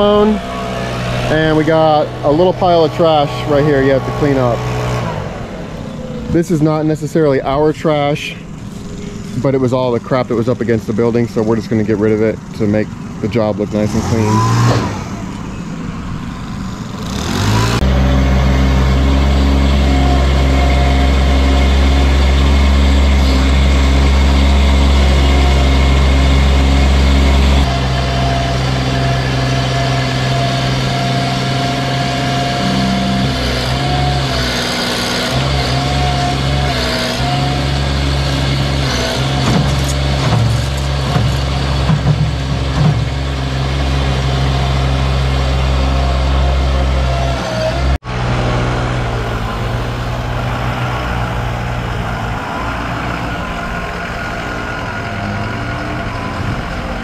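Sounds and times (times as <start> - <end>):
engine running loudly: 0.0 - 57.0.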